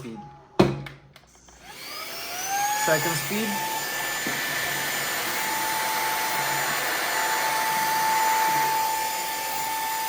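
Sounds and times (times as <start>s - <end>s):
handheld vacuum running: 1.5s - 10.0s.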